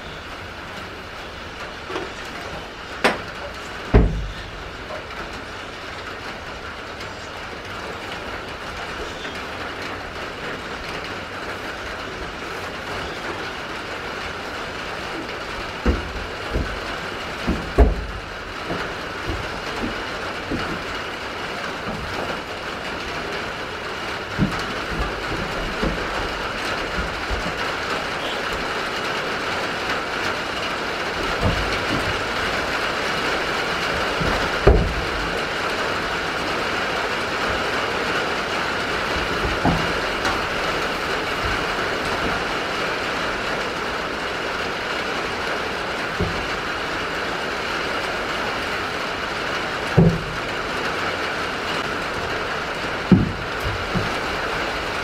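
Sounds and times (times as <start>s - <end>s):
rain on a wooden roof: 0.0s - 55.0s
goats knocking against wood: 0.7s - 6.4s, 7.0s - 55.0s.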